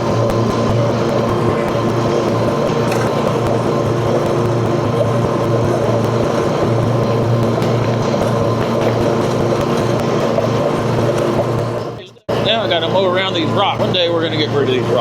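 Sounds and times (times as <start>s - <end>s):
riding mower engine droning: 0.0s - 15.0s.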